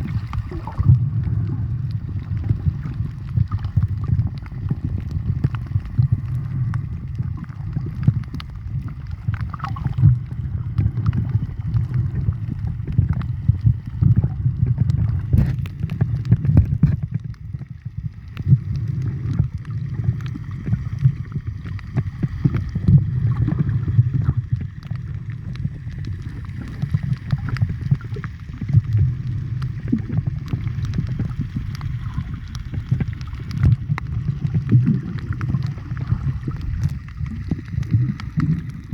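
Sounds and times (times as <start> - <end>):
crackling clicks: 0.0 - 38.9
underwater low rumble: 0.0 - 38.9.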